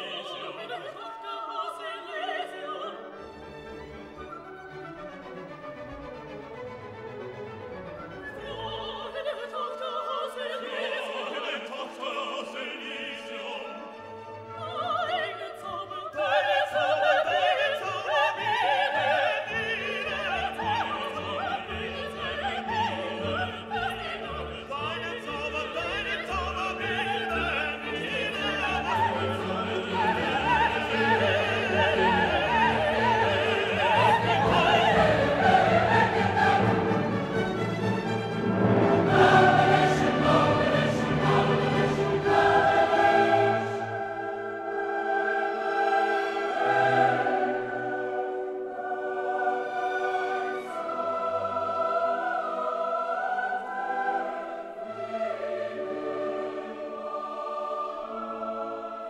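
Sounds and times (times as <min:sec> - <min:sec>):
operatic singing voice: 0:00.0 - 0:03.2, 0:08.3 - 0:59.0
orchestral classical music: 0:00.0 - 0:59.0.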